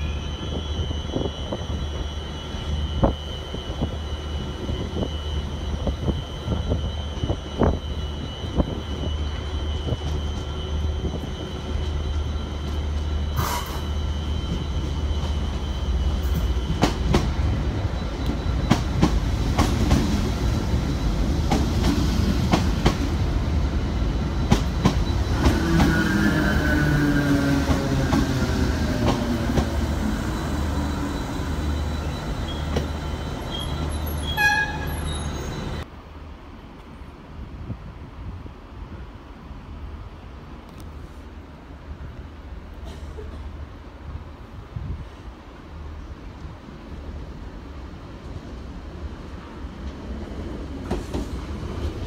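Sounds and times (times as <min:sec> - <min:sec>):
train rumble: 0:00.0 - 0:52.0.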